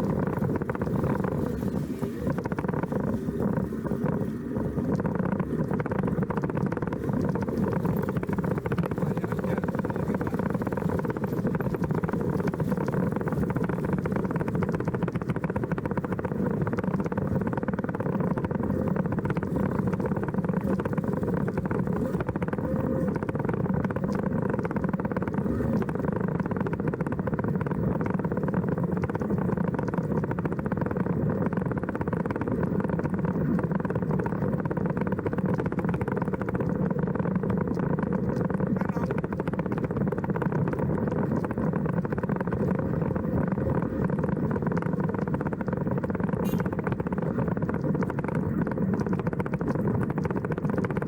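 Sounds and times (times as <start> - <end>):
car interior driving hum: 0.0 - 51.0.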